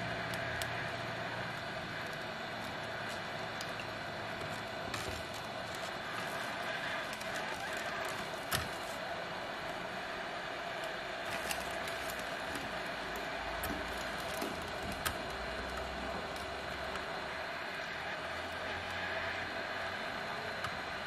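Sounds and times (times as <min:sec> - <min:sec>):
hot air blower hissing: 0:00.0 - 0:21.0.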